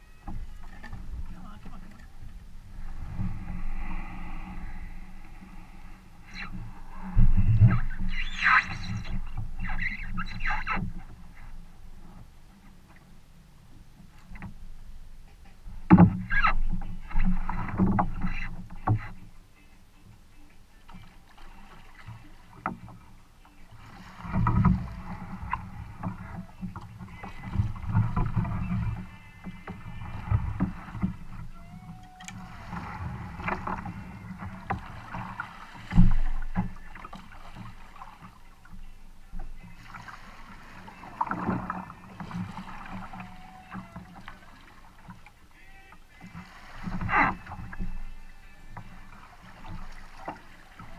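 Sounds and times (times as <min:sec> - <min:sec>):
paddle strokes in water: 0:00.0 - 0:50.9.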